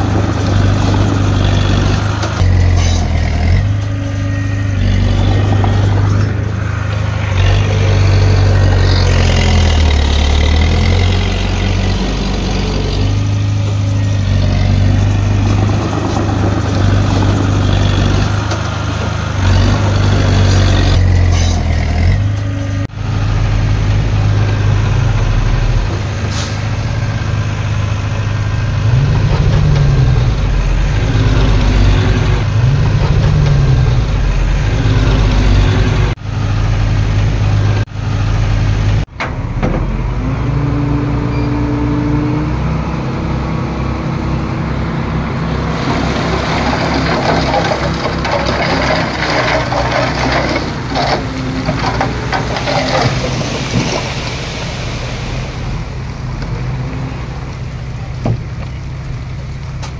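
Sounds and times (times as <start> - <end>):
diesel engines revving: 0.0 - 59.9.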